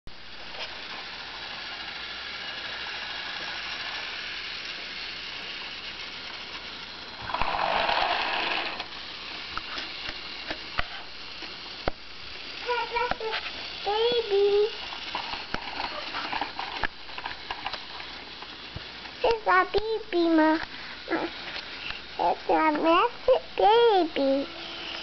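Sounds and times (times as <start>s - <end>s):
toy train motor whirring: 0.2s - 25.0s.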